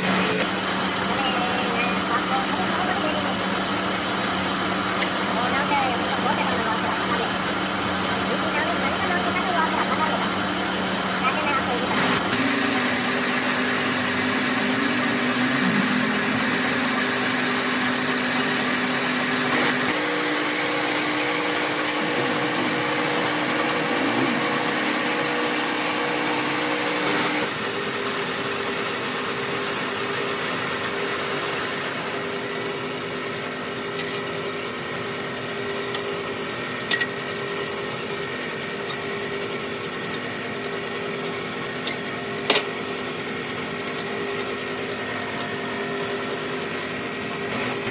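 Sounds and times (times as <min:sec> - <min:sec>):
power machine humming: 0:00.0 - 0:47.9.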